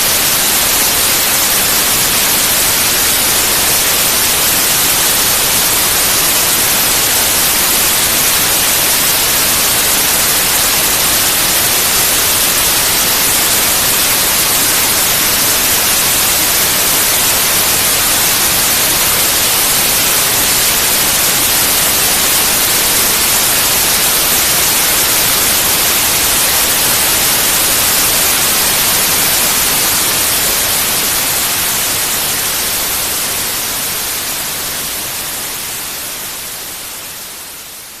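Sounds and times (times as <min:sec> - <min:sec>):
electronic white noise: 0:00.0 - 0:38.0.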